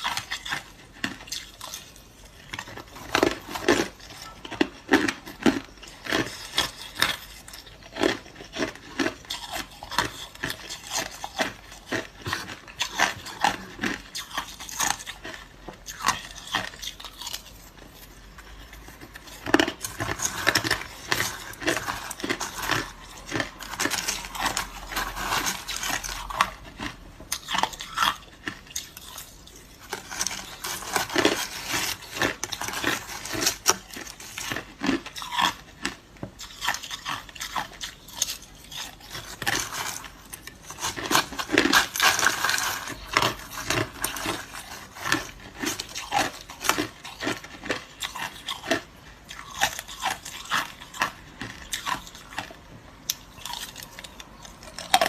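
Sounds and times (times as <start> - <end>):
crushed ice being chewed: 0.0 - 55.0.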